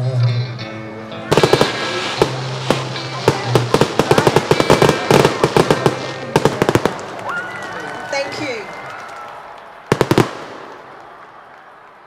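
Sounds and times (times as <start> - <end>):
fireworks bangs and crackling: 1.3 - 11.2.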